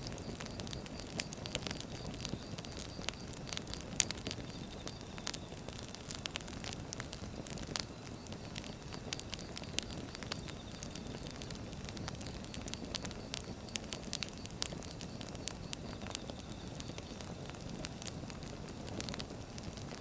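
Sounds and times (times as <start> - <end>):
logs crackling and popping: 0.0 - 20.0
fire flames rushing: 0.1 - 20.0.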